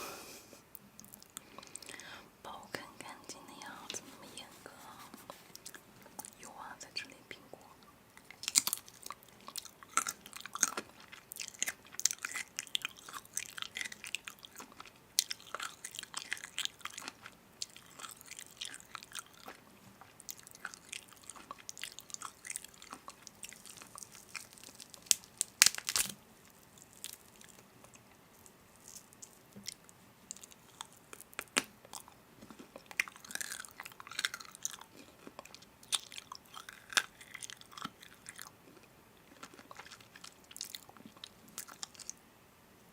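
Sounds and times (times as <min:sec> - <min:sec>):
person chewing crunchy food: 0:03.7 - 0:06.4, 0:08.2 - 0:42.2.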